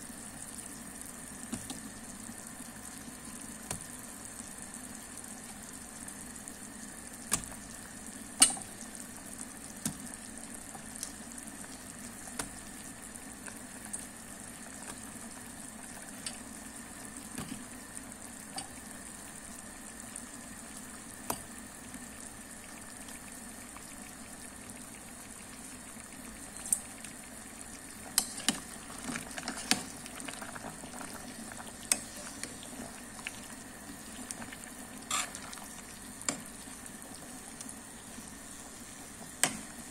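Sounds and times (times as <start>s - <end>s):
soup bubbling in a pot: 0.0s - 39.9s.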